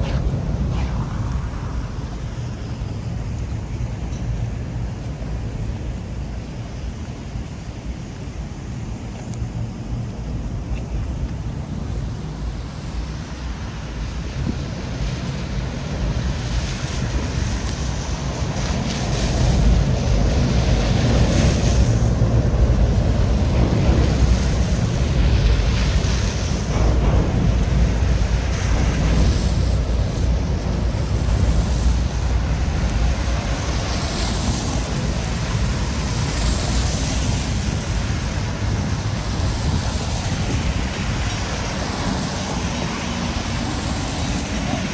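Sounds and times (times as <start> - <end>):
heavy rain: 0.0 - 44.9
street noise: 0.0 - 44.9
wind gusting on microphone: 0.0 - 44.9.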